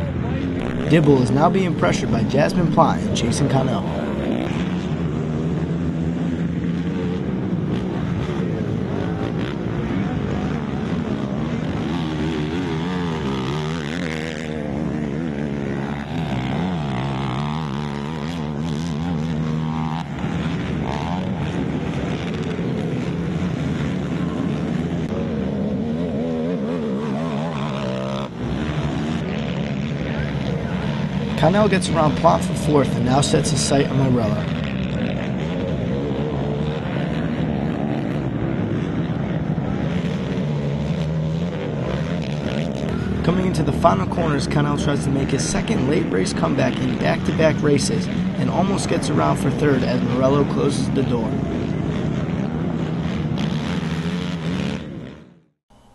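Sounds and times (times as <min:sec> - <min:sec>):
quad engines revving: 0:00.0 - 0:55.4.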